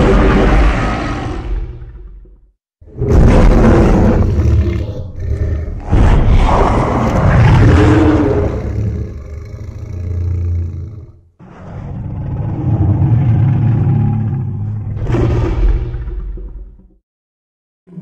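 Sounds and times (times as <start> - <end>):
giant monster roar: 0.0 - 2.0, 2.8 - 16.4.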